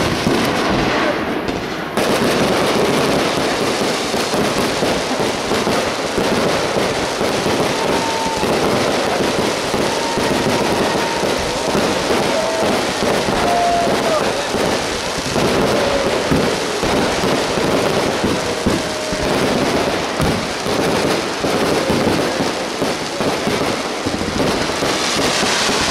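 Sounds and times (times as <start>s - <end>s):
fireworks crackling: 0.0s - 25.9s.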